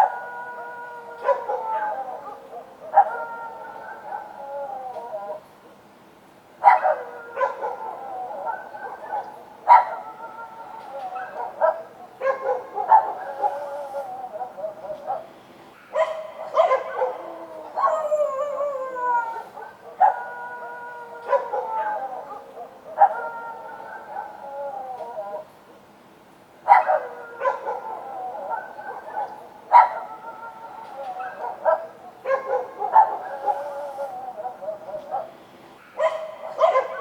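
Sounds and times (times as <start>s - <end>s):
dogs barking: 0.0s - 4.4s, 6.6s - 10.2s, 11.0s - 18.6s, 21.2s - 25.5s, 26.6s - 37.0s
dogs howling: 0.0s - 5.5s, 6.6s - 25.6s, 26.6s - 37.0s.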